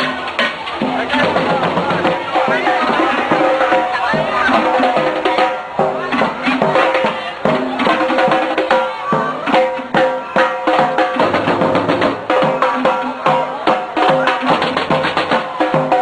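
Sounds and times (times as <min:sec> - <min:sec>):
drums and percussion: 0:00.0 - 0:16.0.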